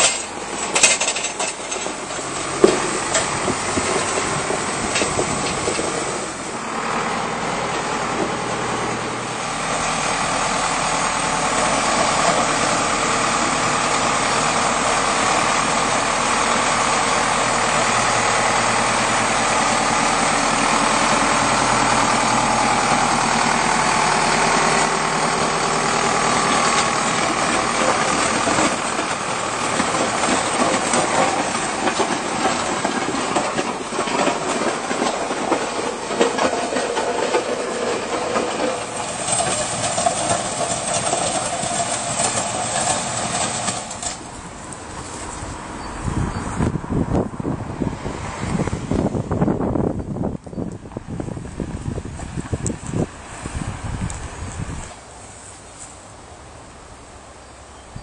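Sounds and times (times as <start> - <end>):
grader blades scraping gravel: 0.0 - 47.1, 48.0 - 57.8
tractor diesel engine running: 0.0 - 58.0.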